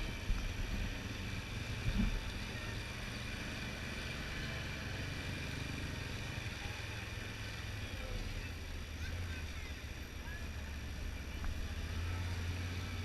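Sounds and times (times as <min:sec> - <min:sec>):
vehicle rumbling slowly: 0:00.0 - 0:13.0.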